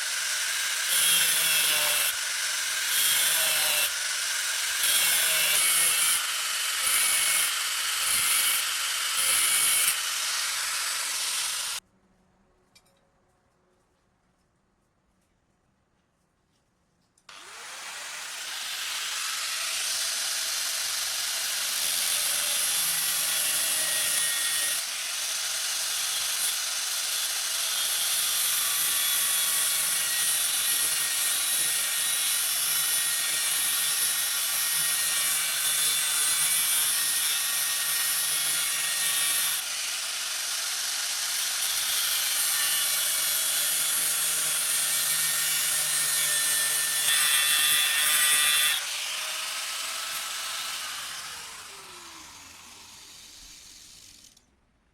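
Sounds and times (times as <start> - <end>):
power tool grinding metal: 0.0 - 11.8, 17.3 - 54.4.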